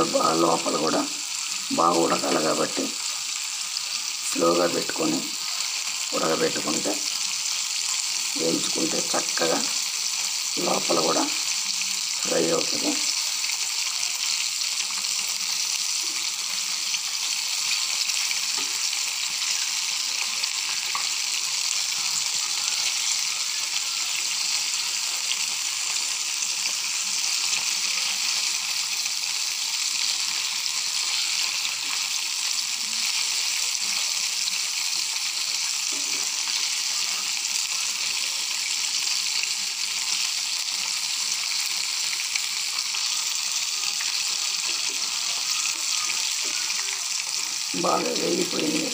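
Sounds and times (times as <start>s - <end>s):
chicken deep-frying in oil: 0.0s - 48.9s.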